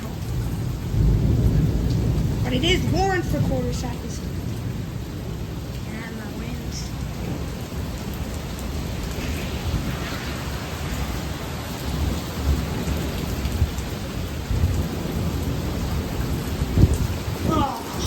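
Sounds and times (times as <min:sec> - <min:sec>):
thunder rumble: 0:00.0 - 0:18.0
torrential rain: 0:00.0 - 0:18.0.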